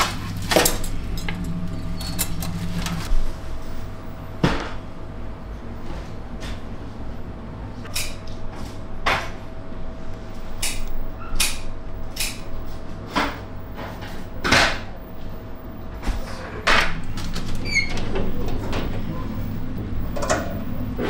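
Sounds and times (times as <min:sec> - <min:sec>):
hum of kitchen equipment: 0:00.0 - 0:21.0.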